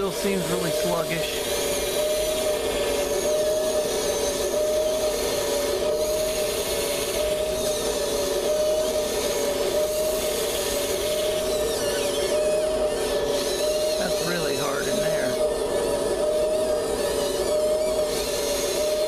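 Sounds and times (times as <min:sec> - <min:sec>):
electric motors whining: 0:00.0 - 0:19.0
higher servo whines sliding: 0:00.0 - 0:19.0.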